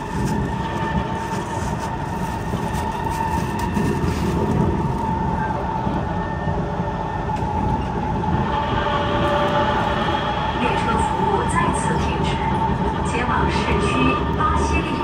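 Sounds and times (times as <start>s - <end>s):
continuous train whine: 0.0s - 15.0s
train wheels rumbling on rail: 0.0s - 15.0s.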